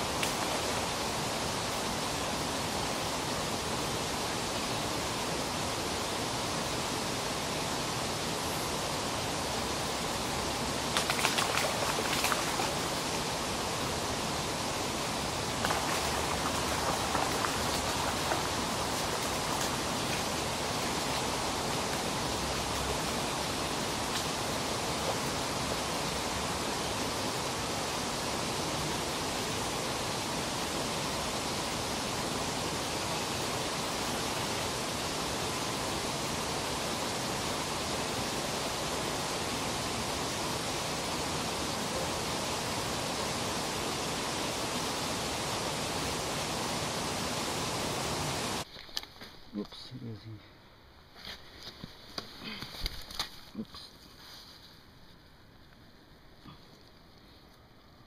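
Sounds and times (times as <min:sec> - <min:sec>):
river water rushing: 0:00.0 - 0:48.7.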